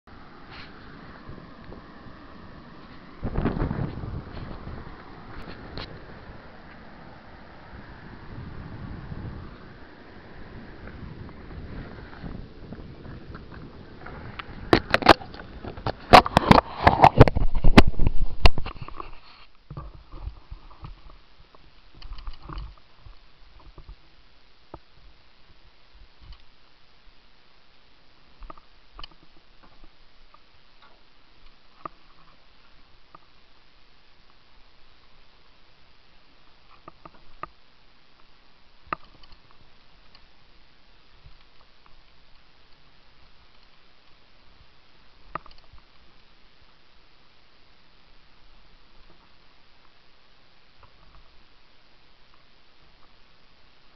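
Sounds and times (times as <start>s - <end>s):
faint steady hiss: 0.1s - 53.9s.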